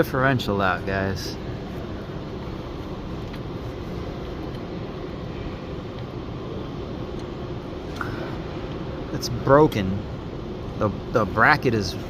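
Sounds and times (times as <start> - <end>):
repair shop rumble and hiss: 0.0 - 12.0.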